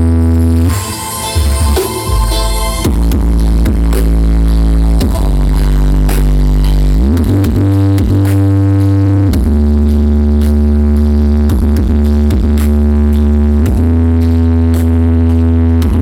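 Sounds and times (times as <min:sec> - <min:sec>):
loud electronic dance music: 0:00.0 - 0:16.0.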